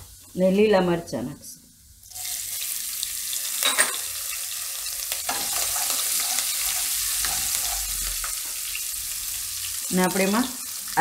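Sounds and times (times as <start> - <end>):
chillies sizzling in hot oil: 0.0 - 1.0, 1.9 - 11.0.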